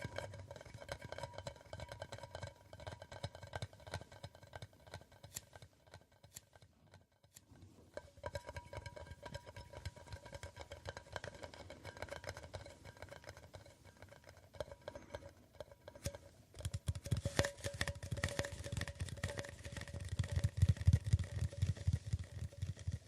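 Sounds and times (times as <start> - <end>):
rapid tapping on hard object: 0.0 - 23.0.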